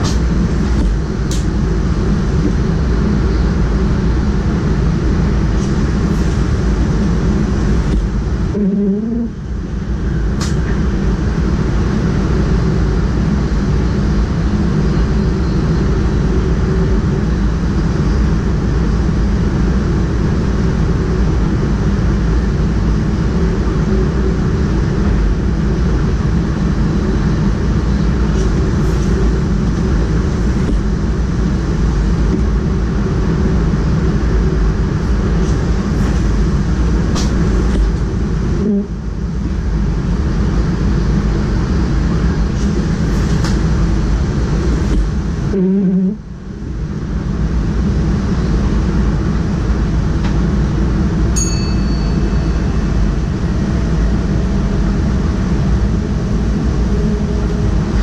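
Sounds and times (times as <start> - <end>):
wheels rumbling on rails: 0.0 - 58.0.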